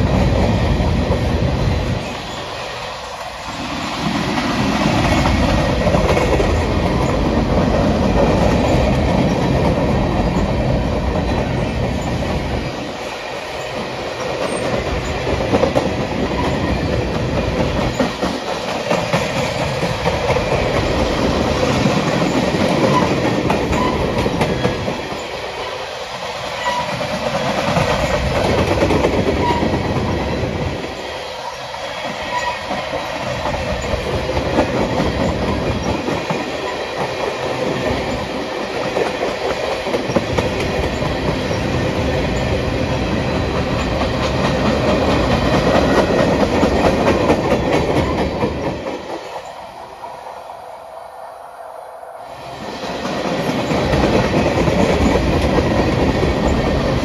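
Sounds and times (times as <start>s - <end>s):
train wheels rumbling and clattering: 0.0s - 51.0s, 52.4s - 57.0s.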